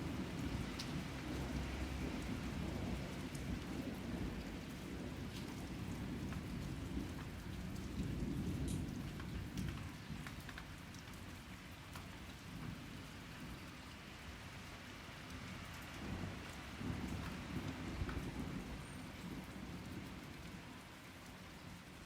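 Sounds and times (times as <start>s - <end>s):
low rumble of thunder: 0.0s - 14.6s, 15.2s - 22.0s
rain falling: 0.0s - 22.0s.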